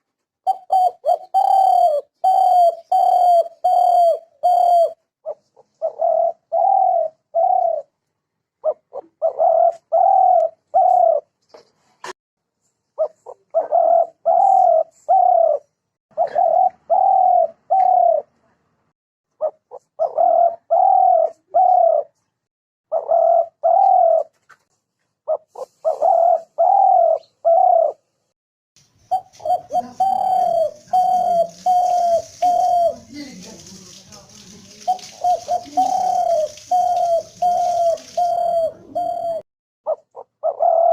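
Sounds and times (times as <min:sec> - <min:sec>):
dove cooing: 0:00.4 - 0:08.0, 0:08.6 - 0:11.3, 0:13.0 - 0:18.3, 0:19.4 - 0:22.2, 0:22.9 - 0:24.4, 0:25.3 - 0:28.1, 0:29.0 - 0:33.8, 0:34.7 - 0:40.9.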